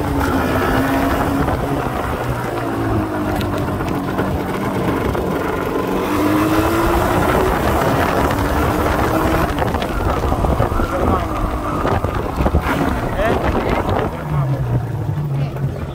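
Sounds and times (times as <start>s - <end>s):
two-stroke motorcycle engine running: 0.0s - 15.9s.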